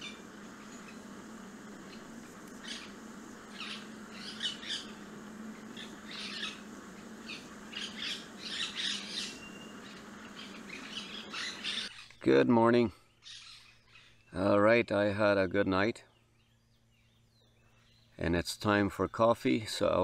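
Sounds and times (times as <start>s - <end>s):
wild birds calling: 0.0s - 19.4s
steady low hum: 0.0s - 20.0s.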